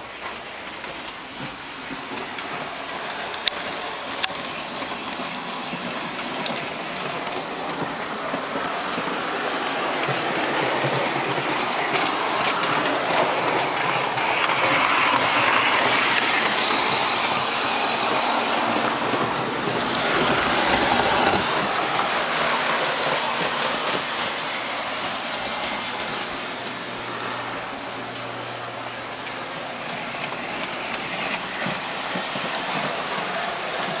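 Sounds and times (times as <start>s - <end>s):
model train wheels on rails: 0.0s - 34.0s.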